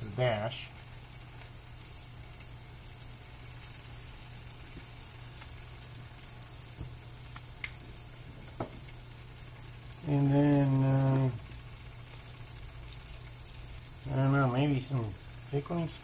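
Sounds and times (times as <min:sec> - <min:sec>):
low steady hum: 0:00.0 - 0:16.0
meat sizzling in a pan: 0:00.0 - 0:16.0.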